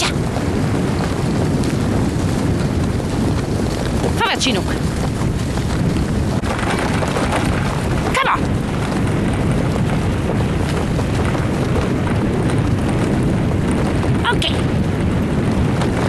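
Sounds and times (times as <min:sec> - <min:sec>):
sled gliding over snow: 0:00.0 - 0:16.0
wind buffeting microphone: 0:00.0 - 0:16.0.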